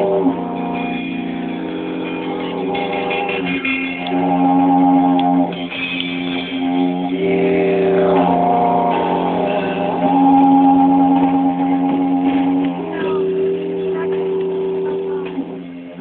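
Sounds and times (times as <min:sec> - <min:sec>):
didgeridoo low drone: 0:00.0 - 0:16.0.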